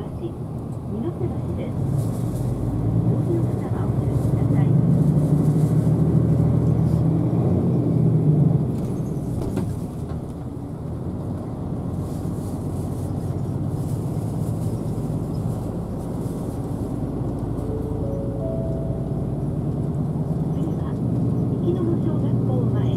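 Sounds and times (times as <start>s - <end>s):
bus engine drone: 0.0s - 22.9s
road noise: 0.0s - 22.9s.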